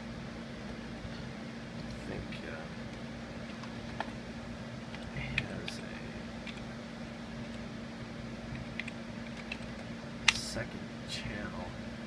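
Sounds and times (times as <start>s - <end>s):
constant low hum: 0.0s - 12.0s
cooling fans whirring: 0.0s - 12.0s.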